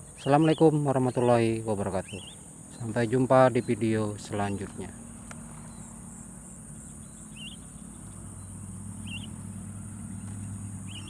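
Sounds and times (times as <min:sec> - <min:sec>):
bird chirps: 0:00.0 - 0:06.0, 0:06.8 - 0:11.0
high-pitched insect trill: 0:00.0 - 0:11.0.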